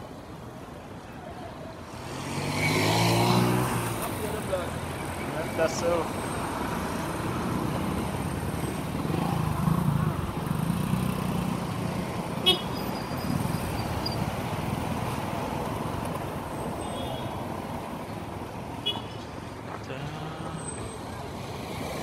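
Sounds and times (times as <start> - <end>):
cars passing: 0.0 - 22.0
motorcycles passing: 1.3 - 22.0.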